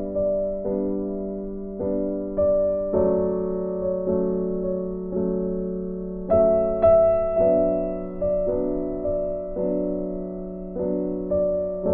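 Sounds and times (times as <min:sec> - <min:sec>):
soft piano music: 0:00.0 - 0:11.9.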